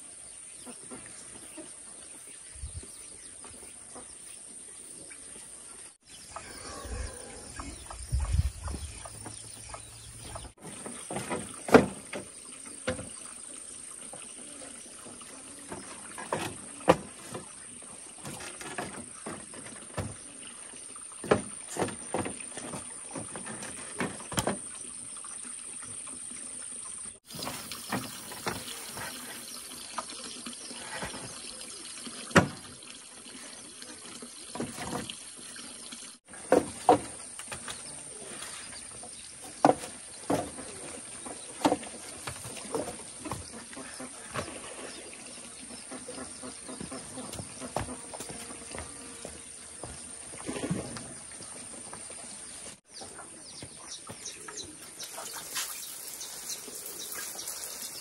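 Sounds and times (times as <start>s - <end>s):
faint outdoor hiss: 0.0s - 58.0s.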